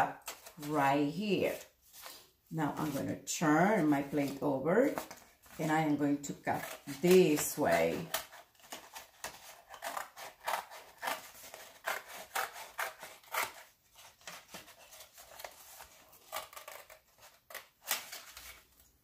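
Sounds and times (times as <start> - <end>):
scissors cutting paper: 0.0 - 1.7, 2.7 - 18.7.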